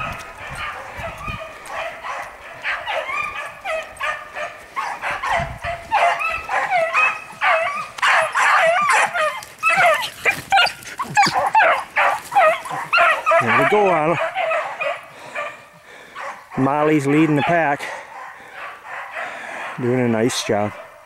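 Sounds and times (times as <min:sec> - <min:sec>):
pack of hounds baying: 0:00.0 - 0:21.0.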